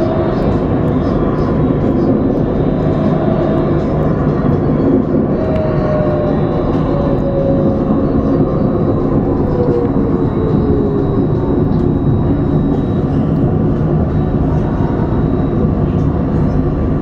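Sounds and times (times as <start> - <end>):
electric drive whine: 0.0 - 17.0
tram wheels rumbling on rail: 0.0 - 17.0.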